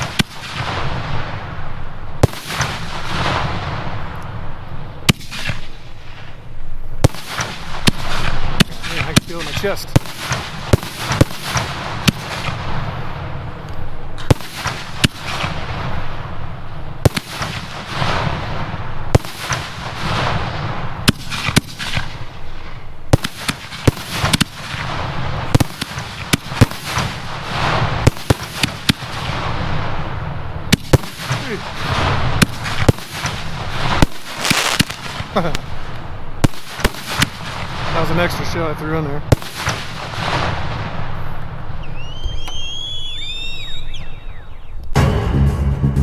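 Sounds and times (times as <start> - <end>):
firework shells bursting: 0.0 - 44.5.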